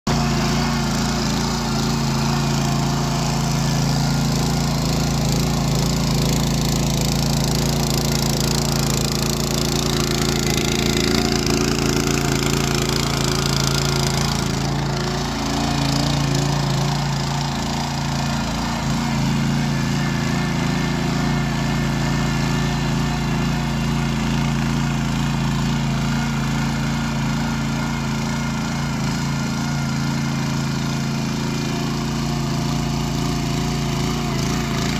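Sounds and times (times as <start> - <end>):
tiller engine running: 0.0 - 34.9.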